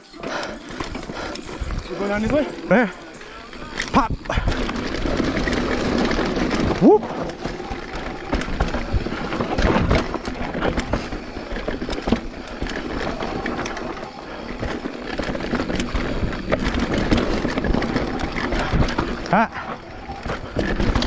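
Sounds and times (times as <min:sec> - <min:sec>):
bike knocking and rattling: 0:00.0 - 0:21.0
bike tyres rushing over dirt: 0:00.0 - 0:21.0.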